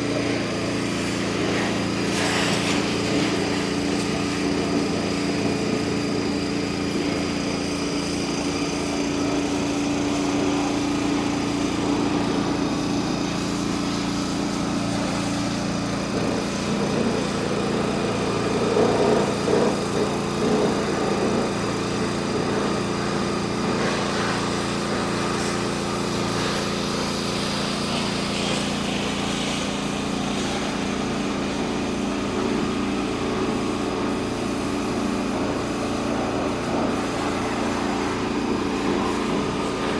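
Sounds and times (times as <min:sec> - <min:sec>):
mini digger engine running: 0:00.0 - 0:39.9.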